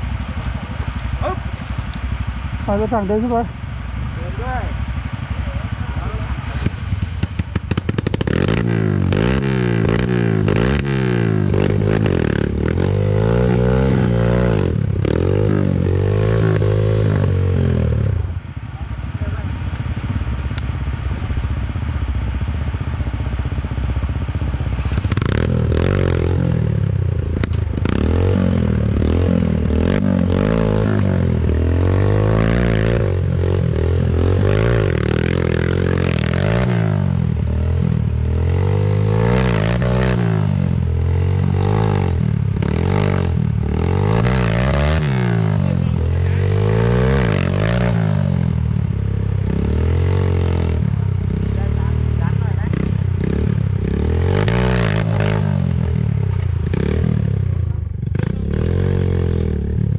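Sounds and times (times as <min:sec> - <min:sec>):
dirt bike engine idling: 0:00.0 - 0:59.9
dirt bike engine revving: 0:00.0 - 0:59.9.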